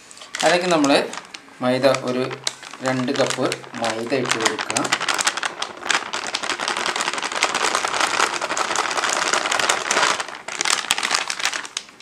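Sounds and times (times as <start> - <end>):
flour pouring into water: 1.8 - 11.9.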